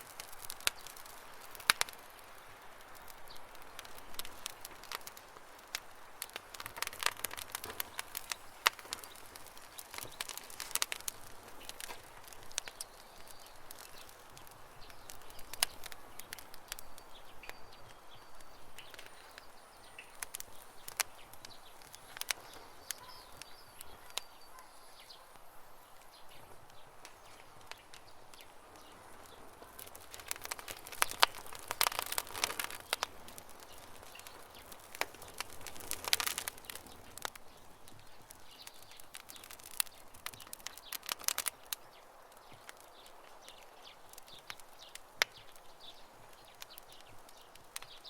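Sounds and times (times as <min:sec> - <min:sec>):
campfire crackling: 0:00.0 - 0:48.0
faint birds chirping: 0:00.0 - 0:48.0.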